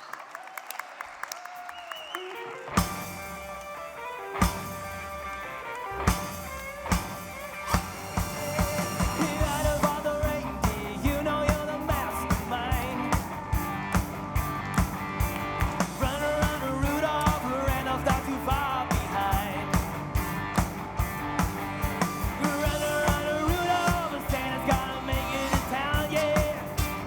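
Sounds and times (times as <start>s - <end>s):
rock and roll song: 2.2s - 27.0s.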